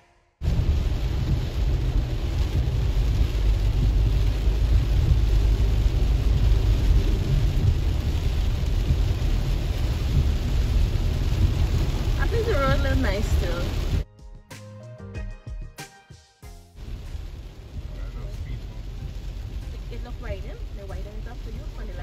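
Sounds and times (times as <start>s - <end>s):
car driving on wet road: 0.4s - 14.0s, 16.8s - 22.0s
heavy rain on car windshield: 0.4s - 14.0s, 16.8s - 22.0s.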